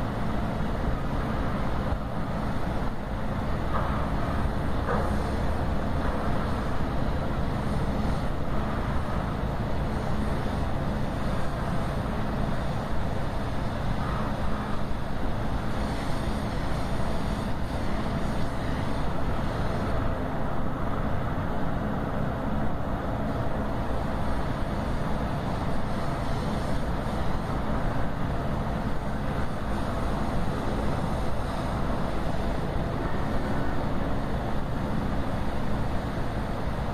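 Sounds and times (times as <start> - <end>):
ferry engines droning: 0.0 - 36.9.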